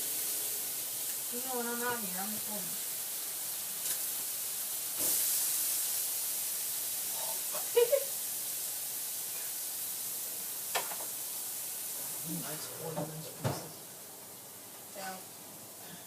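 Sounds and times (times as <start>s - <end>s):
chicken sizzling on a grill: 0.0s - 16.0s.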